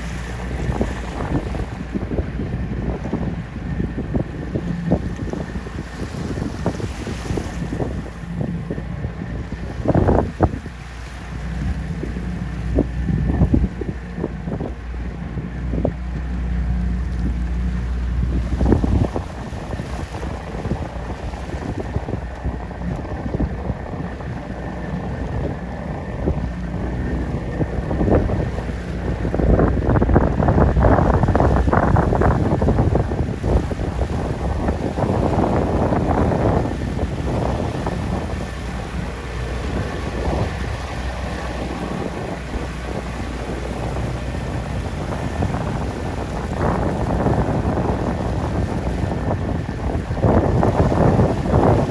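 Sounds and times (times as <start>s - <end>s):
boat engine low rumble: 0.0s - 51.9s
water rushing past hull: 0.0s - 51.9s
wind buffeting microphone: 0.0s - 51.9s.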